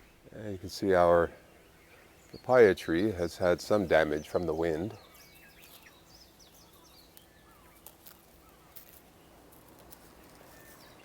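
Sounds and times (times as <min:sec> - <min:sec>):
low steady hiss: 0:00.0 - 0:11.0
small birds chirping: 0:00.0 - 0:11.0.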